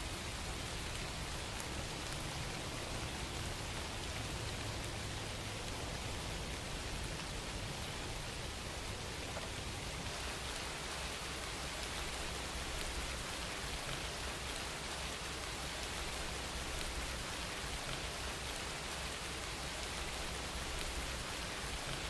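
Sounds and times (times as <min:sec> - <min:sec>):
steady rain hissing: 0:00.0 - 0:22.0.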